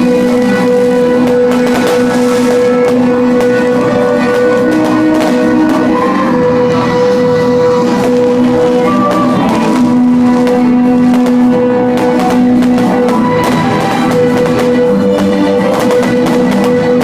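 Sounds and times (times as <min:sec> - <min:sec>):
music with long held notes: 0:00.0 - 0:17.0.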